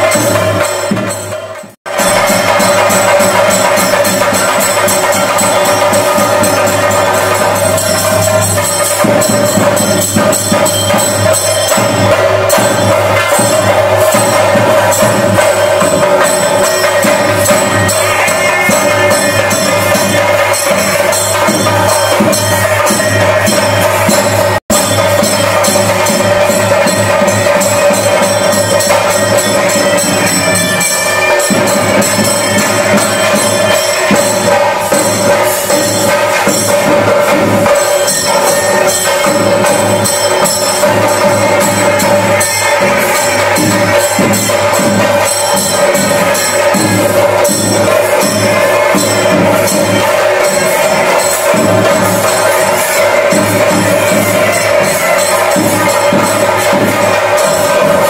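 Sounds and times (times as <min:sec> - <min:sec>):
clashing cymbals: 0:00.0 - 0:58.0
fast temple drumming: 0:00.0 - 0:58.0.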